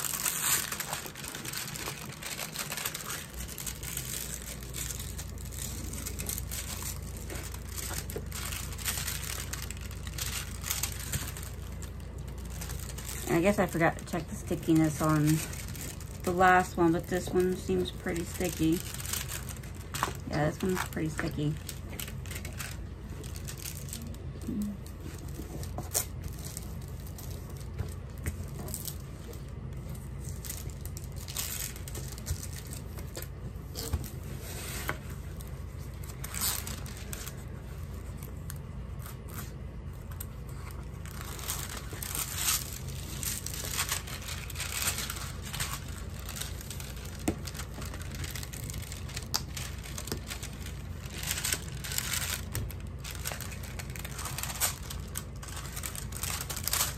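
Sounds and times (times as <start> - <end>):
plastic film crinkling: 0.0 - 56.9.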